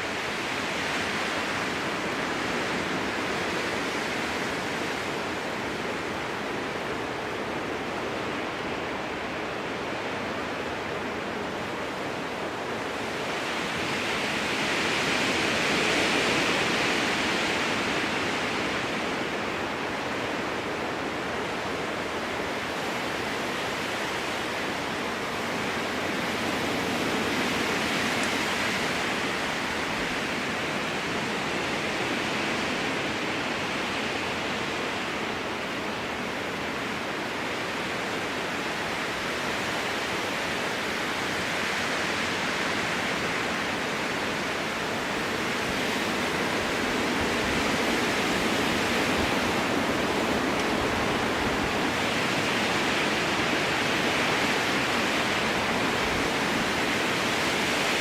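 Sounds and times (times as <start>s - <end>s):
strong wind through trees: 0.0s - 58.0s.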